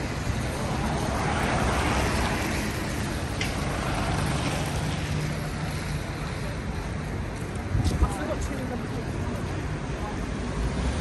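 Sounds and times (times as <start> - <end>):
low hum of street traffic: 0.0 - 11.0.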